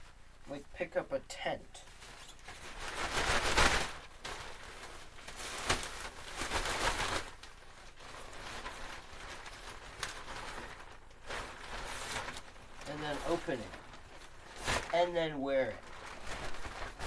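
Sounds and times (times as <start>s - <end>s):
tent fabric rustling: 1.8s - 17.0s.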